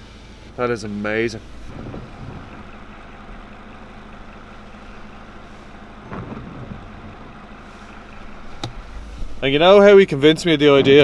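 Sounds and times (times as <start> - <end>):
heavy rain hiss: 0.0 - 9.8
vehicle engine idling: 0.0 - 11.0.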